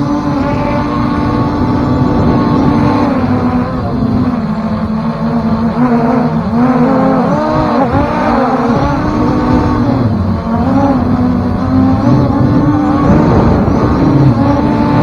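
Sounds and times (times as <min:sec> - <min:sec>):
motor with swinging pitch: 0:00.0 - 0:15.0.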